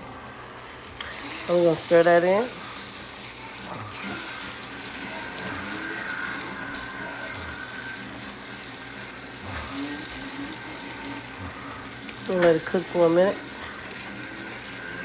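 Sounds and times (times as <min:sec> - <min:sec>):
wet sizzle in a frying pan: 0:00.0 - 0:15.0.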